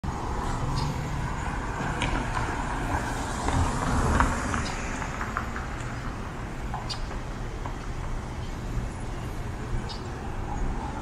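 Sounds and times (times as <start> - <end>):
rumble of passing cars: 0.0 - 11.0.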